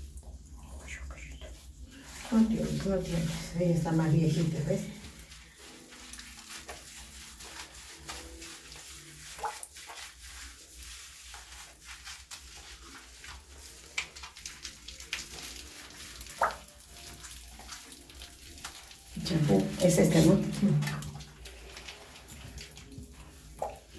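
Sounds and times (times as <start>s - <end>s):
hands rubbing wet dog: 0.0s - 23.9s.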